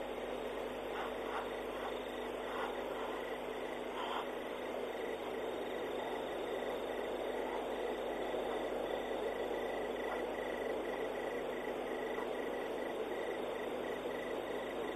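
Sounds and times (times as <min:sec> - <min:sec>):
night insects chirping: 0:00.0 - 0:14.9
steady hiss: 0:00.0 - 0:14.9.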